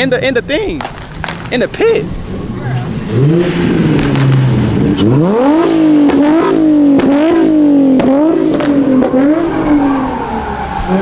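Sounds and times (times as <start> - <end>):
sharp cracks: 0.7 - 9.8
car engine revving hard: 2.0 - 11.0.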